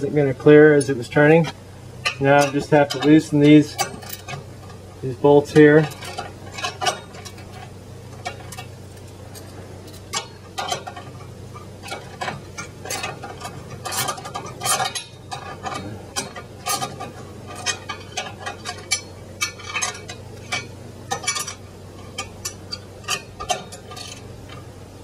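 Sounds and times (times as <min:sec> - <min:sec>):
low steady hum: 0:00.0 - 0:25.0
wrench clinking on metal: 0:00.7 - 0:04.8, 0:05.4 - 0:24.7.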